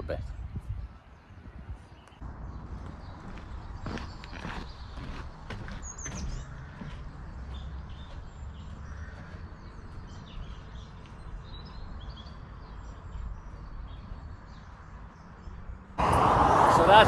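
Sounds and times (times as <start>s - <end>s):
birds chirping and calling: 0.5s - 16.0s.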